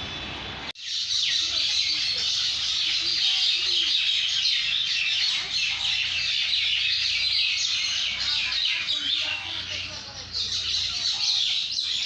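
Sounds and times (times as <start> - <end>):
flock of birds chattering: 0.0 - 12.0.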